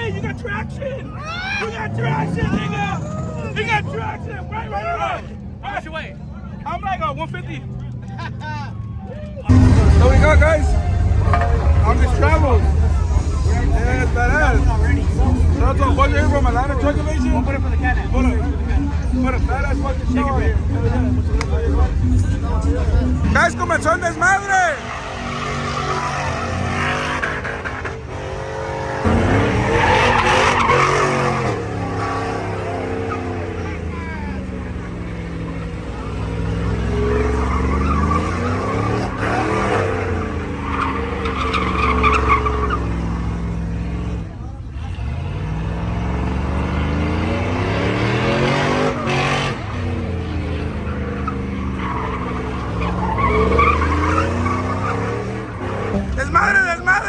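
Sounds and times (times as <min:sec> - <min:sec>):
tires squealing on pavement: 0:00.0 - 0:57.0
truck engine revving hard: 0:09.5 - 0:57.0.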